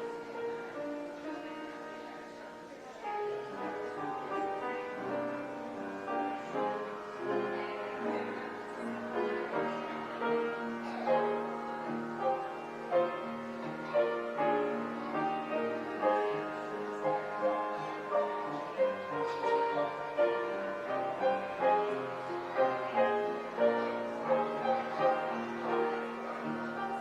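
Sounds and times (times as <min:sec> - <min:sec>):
piano piece: 0:00.0 - 0:27.0.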